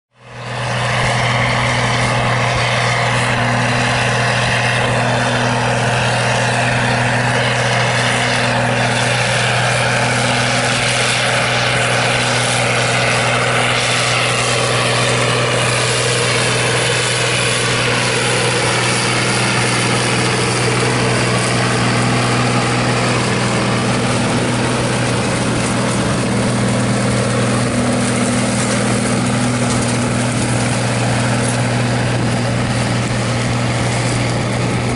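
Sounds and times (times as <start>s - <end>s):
tractor diesel engine droning: 0.1s - 34.9s.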